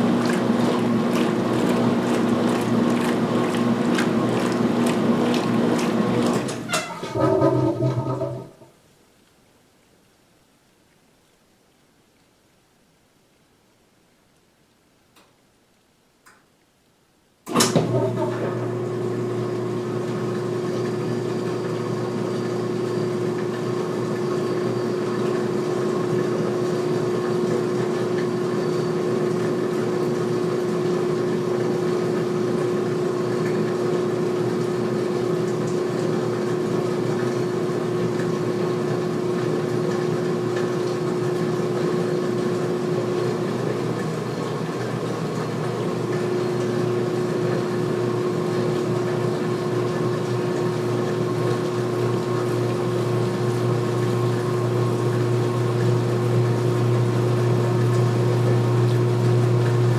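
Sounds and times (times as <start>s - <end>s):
washer motor and drain pump humming: 0.0s - 8.7s, 17.5s - 59.9s.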